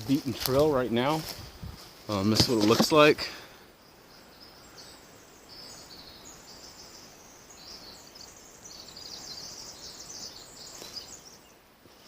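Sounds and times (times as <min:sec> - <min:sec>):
quiet hiss of woods: 0:00.0 - 0:12.0
songbirds trilling: 0:00.0 - 0:12.0.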